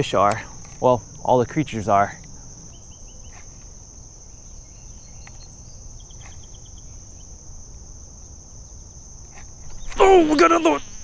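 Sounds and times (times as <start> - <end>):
insects droning: 0.0 - 11.0
quick insect chirps: 0.0 - 11.0.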